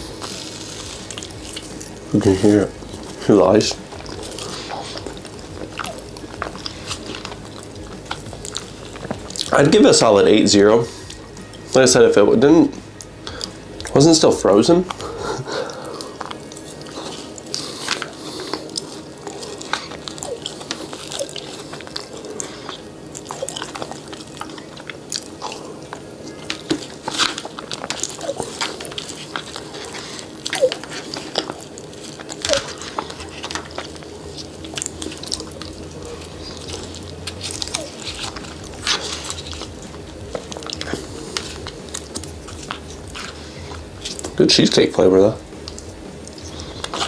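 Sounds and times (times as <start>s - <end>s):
chewing and crunching frozen food: 0.0s - 47.0s.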